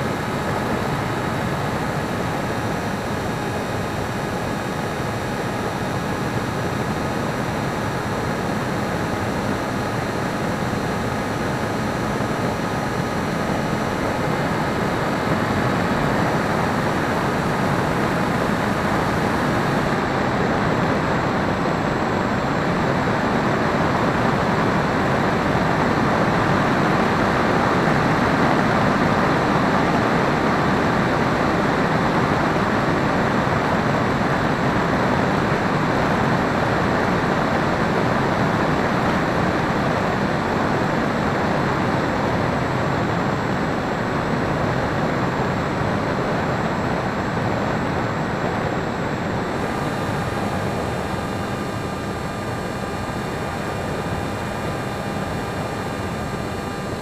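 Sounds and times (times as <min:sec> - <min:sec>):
electric motor and propeller whine: 0:00.0 - 0:35.7, 0:36.3 - 0:57.0.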